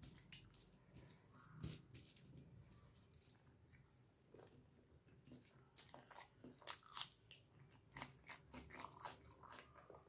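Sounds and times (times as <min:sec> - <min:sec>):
faint wet squishing: 0:00.0 - 0:10.0.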